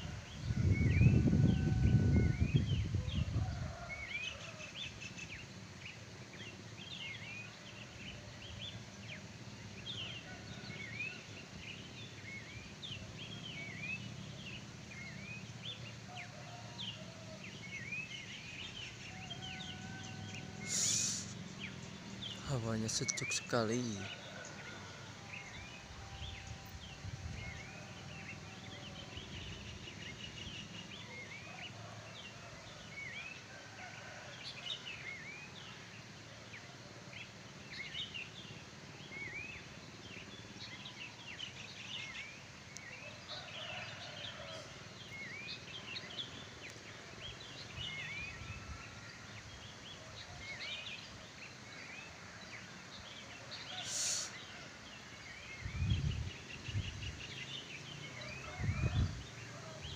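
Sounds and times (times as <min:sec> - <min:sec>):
birds chirping: 0:00.0 - 0:33.2, 0:37.2 - 0:59.9.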